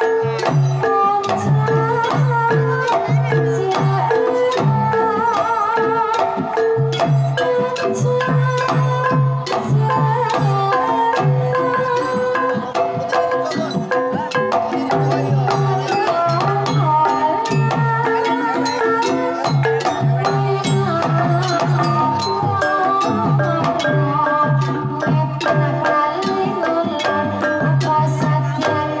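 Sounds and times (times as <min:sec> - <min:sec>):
hand drum beating: 0:00.0 - 0:29.0
metallophones and gongs: 0:00.0 - 0:29.0.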